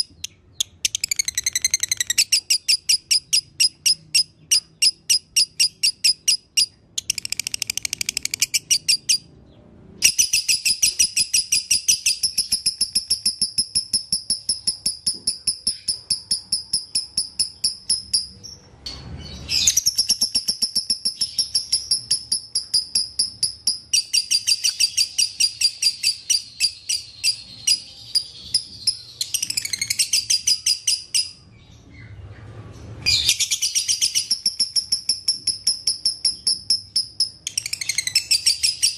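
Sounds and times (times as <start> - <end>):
bird chattering chirps: 0.0 - 9.3, 10.0 - 18.7, 19.4 - 31.4, 33.1 - 38.9.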